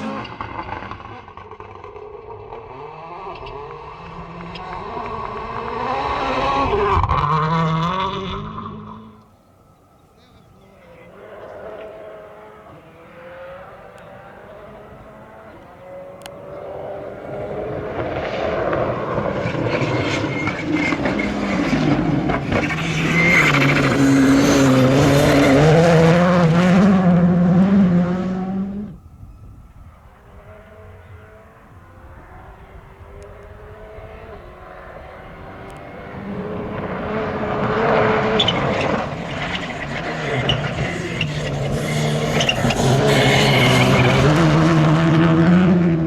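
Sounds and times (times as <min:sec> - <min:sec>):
rally car at full throttle: 0:00.0 - 0:09.5, 0:10.7 - 0:46.0
distant engine: 0:00.0 - 0:46.0.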